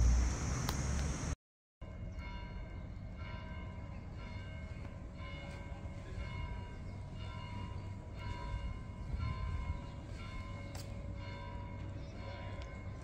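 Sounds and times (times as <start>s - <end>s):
church bells ringing: 1.8s - 13.0s.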